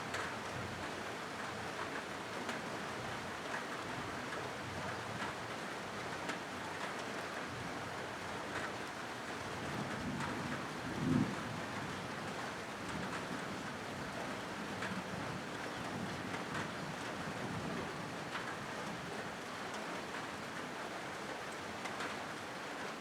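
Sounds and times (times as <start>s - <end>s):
rain on a metal roof: 0.0s - 23.0s.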